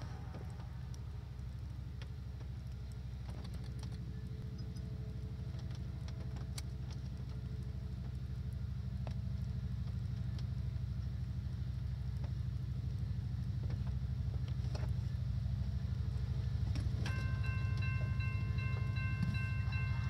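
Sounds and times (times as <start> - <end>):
low pulsing engine rumble: 0.0 - 20.0.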